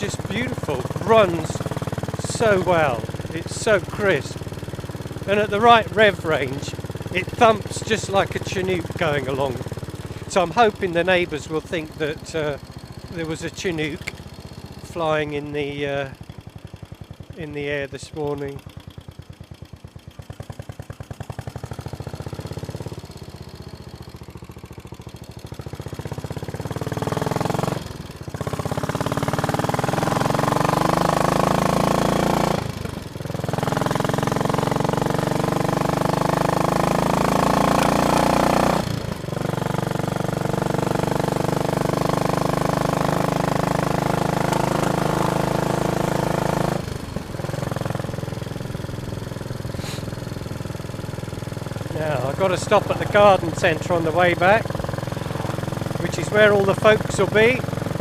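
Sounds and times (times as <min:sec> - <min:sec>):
motorcycle engine thumping: 0:00.0 - 0:10.9, 0:11.6 - 0:15.0, 0:15.6 - 0:17.5, 0:18.4 - 0:30.0, 0:32.6 - 0:58.0.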